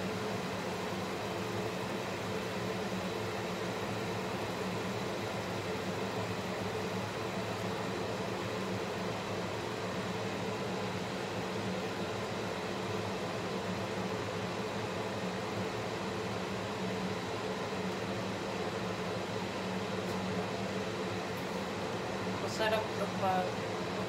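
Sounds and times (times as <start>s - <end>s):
extractor fan whirring: 0.0s - 24.0s.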